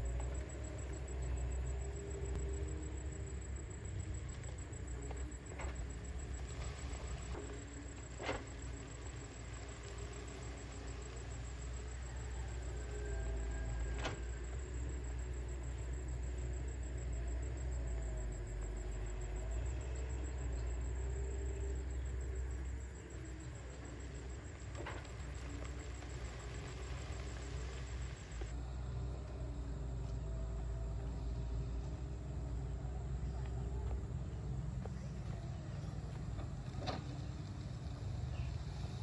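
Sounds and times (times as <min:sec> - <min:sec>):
excavator diesel engine rumble: 0:00.0 - 0:39.0.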